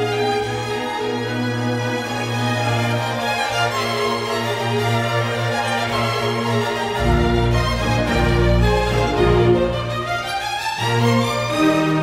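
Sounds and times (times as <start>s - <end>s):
background music sustained notes: 0.0s - 12.0s.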